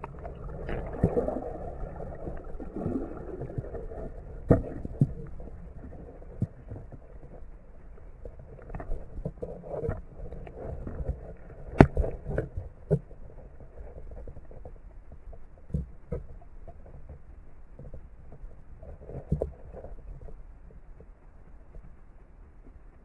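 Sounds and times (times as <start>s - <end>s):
muffled underwater knocks and bumps: 0.0s - 7.6s, 8.2s - 20.4s.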